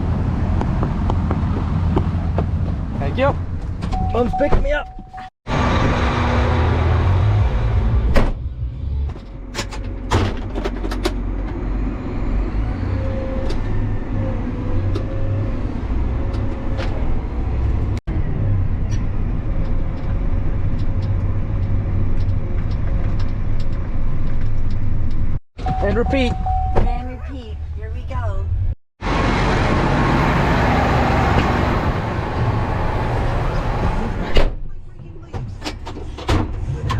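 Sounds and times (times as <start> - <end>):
vehicle engine rumbling: 0.0 - 36.9.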